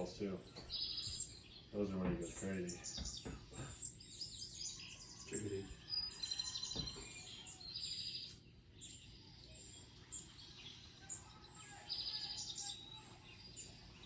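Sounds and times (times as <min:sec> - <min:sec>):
songbirds chirping through speakers: 0:00.0 - 0:14.0
rapid high bird trill: 0:00.7 - 0:14.0.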